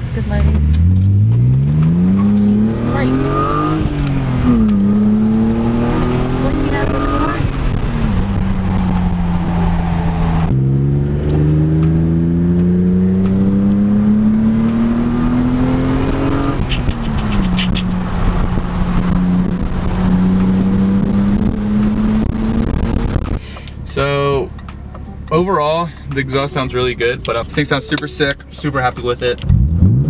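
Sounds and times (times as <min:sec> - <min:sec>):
car engine and exhaust: 0:00.0 - 0:30.0.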